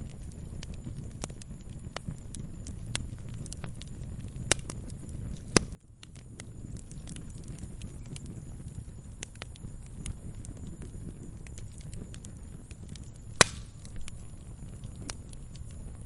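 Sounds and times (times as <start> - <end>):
fire crackling and snapping: 0.0 - 16.0
fire low rumble: 0.0 - 16.0
loud fire pops: 0.0 - 16.0.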